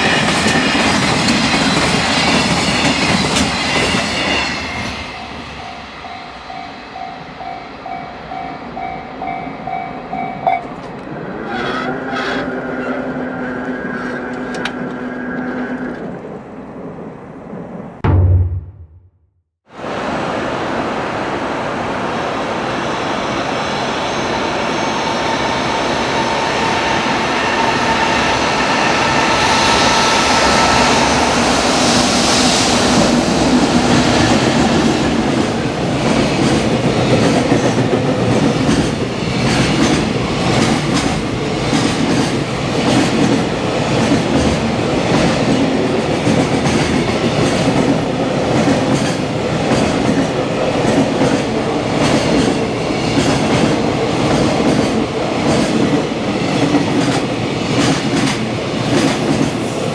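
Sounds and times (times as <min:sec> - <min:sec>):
freight train rumble and whine: 0:00.0 - 0:18.0, 0:19.8 - 0:59.9.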